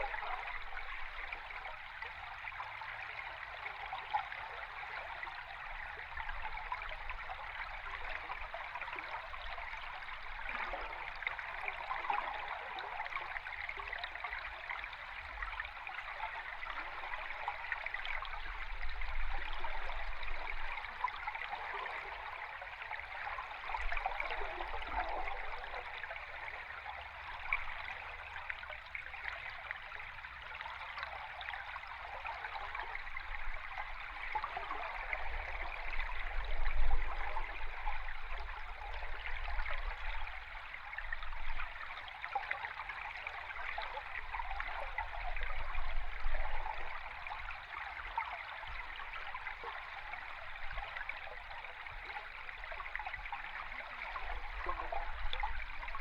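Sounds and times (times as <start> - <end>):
underwater stream bubbling: 0.0 - 56.0.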